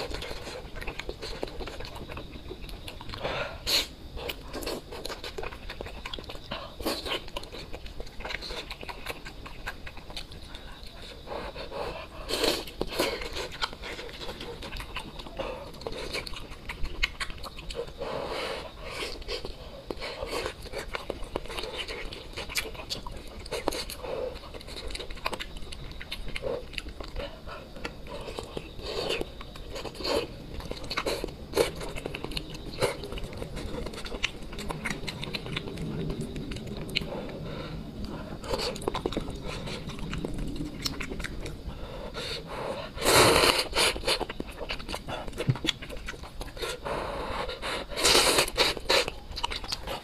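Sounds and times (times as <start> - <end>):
person chewing: 0.0 - 50.0.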